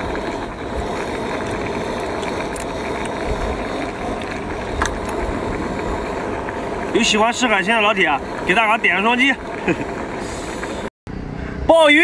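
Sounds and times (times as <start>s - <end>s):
steady rumbling noise: 0.0s - 12.0s.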